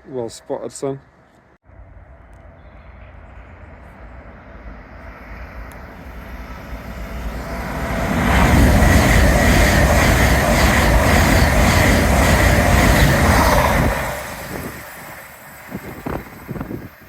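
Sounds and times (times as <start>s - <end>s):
train passing at speed: 1.6s - 17.0s.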